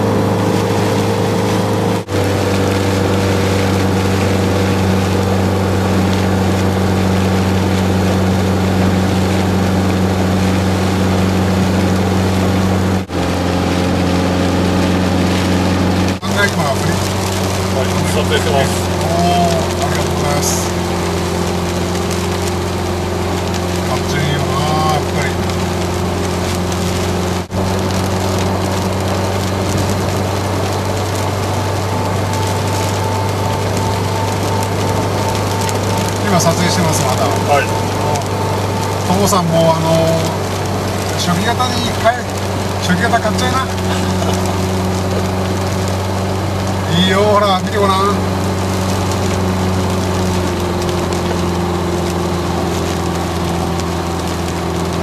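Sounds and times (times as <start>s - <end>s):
car engine drone: 0.0s - 55.0s
rain on car: 0.0s - 55.0s
thin whine: 0.0s - 55.0s
tyres hissing on wet road: 0.0s - 55.0s.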